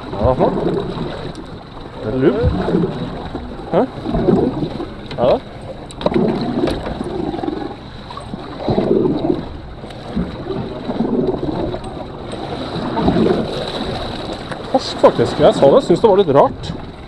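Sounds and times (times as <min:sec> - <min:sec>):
water slapping boat hull: 0:00.0 - 0:17.0
wind buffeting microphone: 0:00.0 - 0:17.0.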